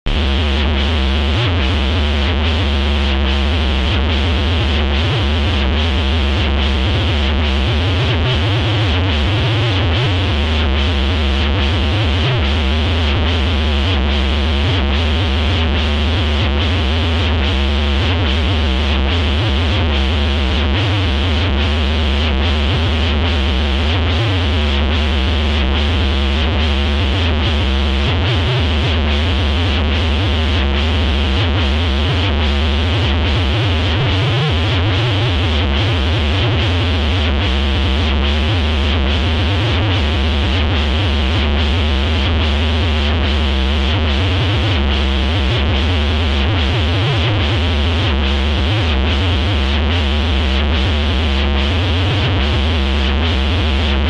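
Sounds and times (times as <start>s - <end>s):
distorted synthesizer music: 0.1s - 54.0s.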